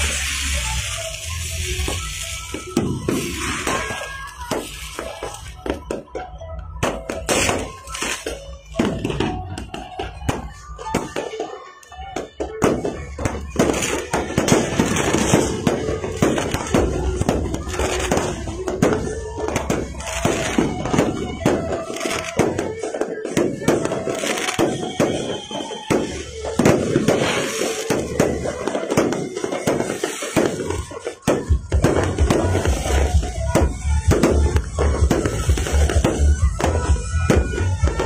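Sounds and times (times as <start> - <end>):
fireworks bangs and crackles: 0.0 - 38.0
music playing: 0.0 - 38.0.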